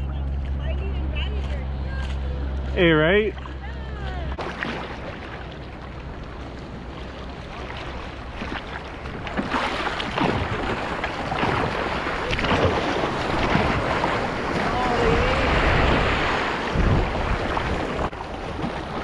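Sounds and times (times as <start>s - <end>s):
seawater splashing and sloshing: 0.0s - 19.0s.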